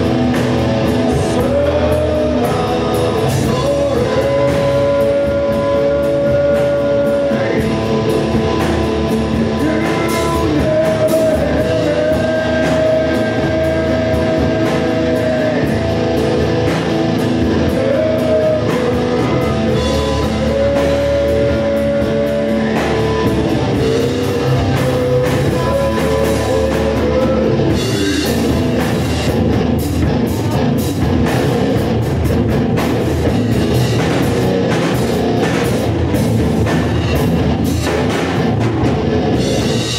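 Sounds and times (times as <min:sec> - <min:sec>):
distorted electric guitar: 0:00.0 - 0:39.9
drums and cymbals: 0:00.0 - 0:39.9
rock band playing: 0:00.0 - 0:39.9.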